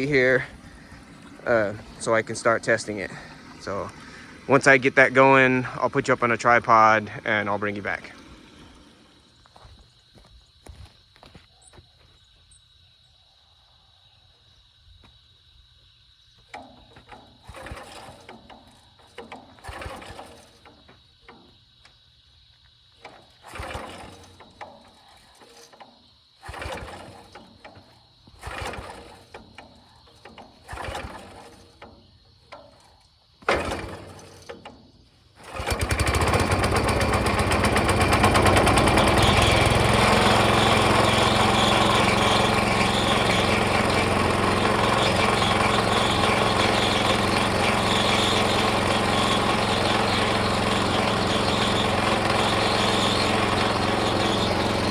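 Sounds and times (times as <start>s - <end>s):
small gasoline engine running: 0.0s - 9.9s, 16.4s - 22.0s, 23.0s - 54.9s
recoil starter pulls: 0.0s - 11.3s, 16.4s - 54.9s.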